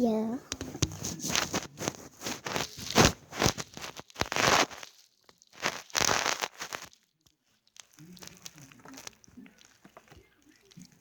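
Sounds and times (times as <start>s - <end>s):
plastic packaging crinkling: 0.7s - 11.0s.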